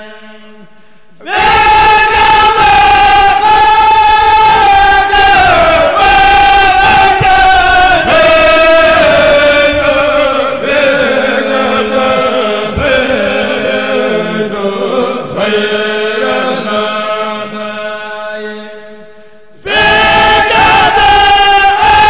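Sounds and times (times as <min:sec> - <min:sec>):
men chanting in unison: 0:01.2 - 0:19.0, 0:19.6 - 0:22.0.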